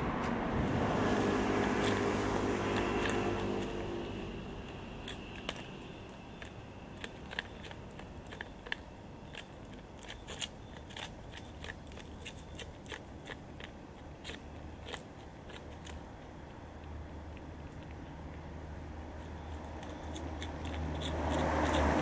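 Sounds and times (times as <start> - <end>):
cat crunching food: 1.0 - 22.0.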